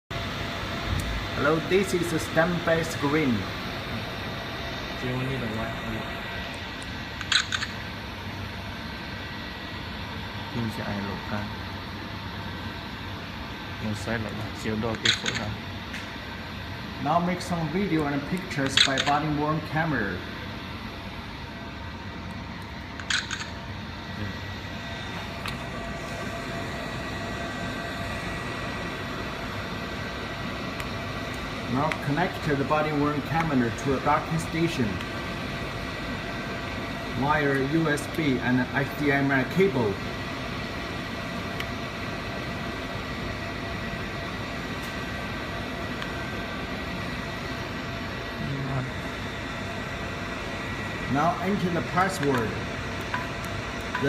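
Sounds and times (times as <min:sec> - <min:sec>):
mechanical hum and hiss: 0:00.0 - 0:54.0.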